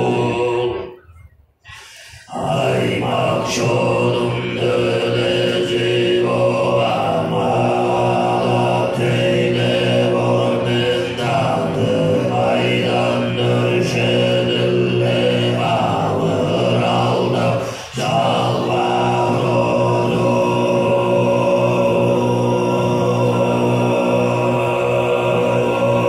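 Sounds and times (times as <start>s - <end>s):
throat singing drone: 0.0s - 26.0s.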